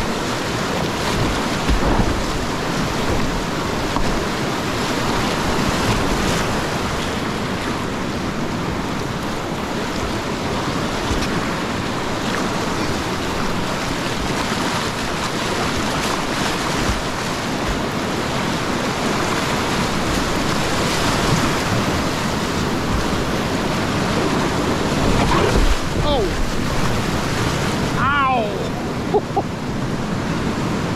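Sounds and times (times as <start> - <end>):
whitewater rapids rushing: 0.0 - 30.9.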